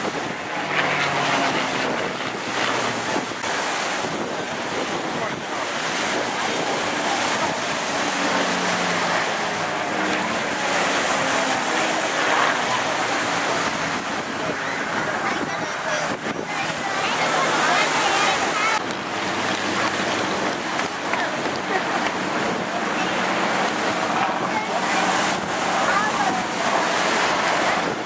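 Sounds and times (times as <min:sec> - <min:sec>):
piston aircraft engines droning: 0:00.0 - 0:28.0
wind on microphone: 0:00.0 - 0:28.0.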